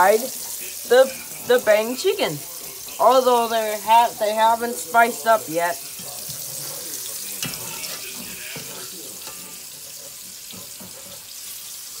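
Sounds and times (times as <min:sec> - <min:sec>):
shrimp sizzling in deep fryer: 0:00.0 - 0:12.0.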